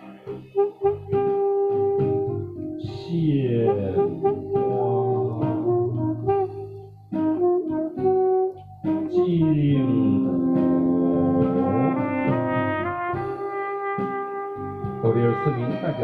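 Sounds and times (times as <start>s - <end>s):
saxophone playing slow melody: 0.0s - 16.0s
trumpet: 0.0s - 16.0s.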